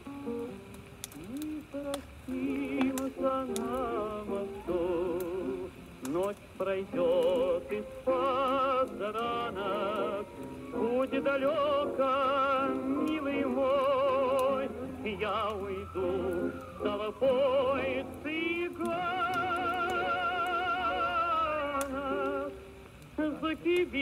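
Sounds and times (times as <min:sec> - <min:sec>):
wood fire crackling: 0:00.0 - 0:24.0
operatic wordless singing: 0:01.1 - 0:24.0.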